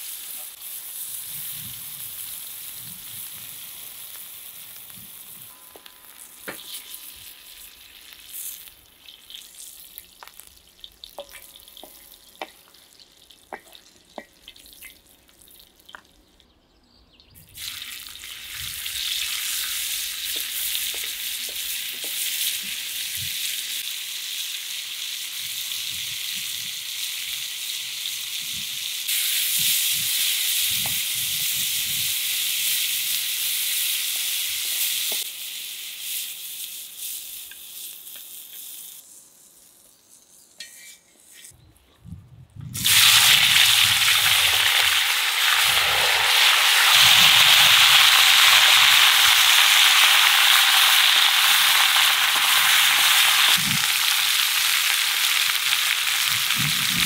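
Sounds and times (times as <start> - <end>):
onions sizzling in a pan: 0.0 - 15.4, 17.6 - 41.6, 42.8 - 57.0.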